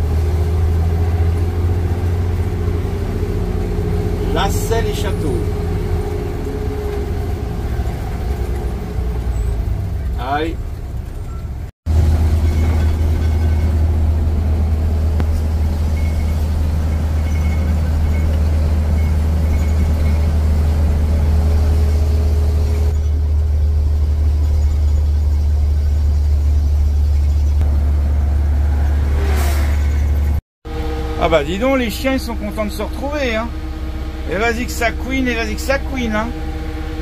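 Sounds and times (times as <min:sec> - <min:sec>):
vehicle engine and road noise: 0:00.0 - 0:37.0.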